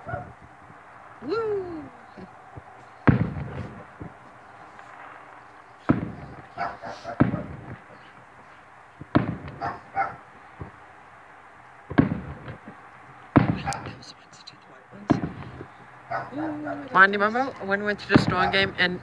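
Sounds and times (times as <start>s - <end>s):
distant fireworks booming: 0.0s - 14.1s, 14.9s - 19.0s.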